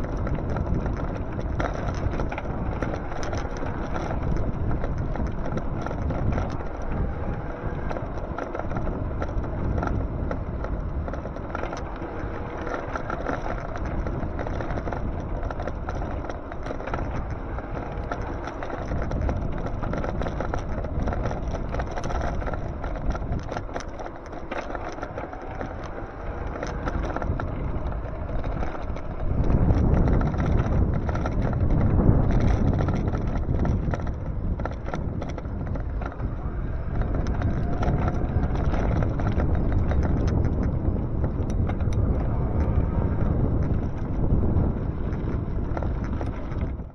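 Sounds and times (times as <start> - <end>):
road noise: 0.0 - 46.9
wind rushing over microphone: 0.0 - 46.9.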